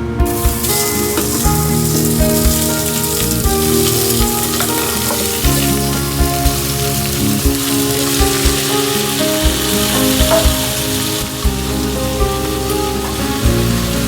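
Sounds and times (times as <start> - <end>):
food sizzling in a pan: 0.3 - 14.0.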